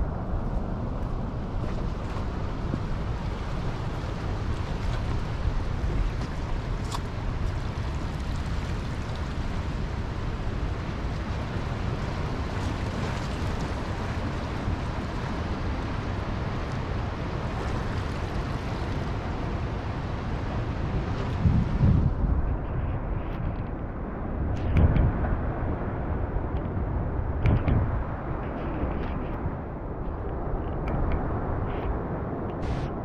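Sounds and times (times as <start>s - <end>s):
sea water and surf: 0.0s - 33.0s
wind buffeting the microphone: 0.0s - 33.0s.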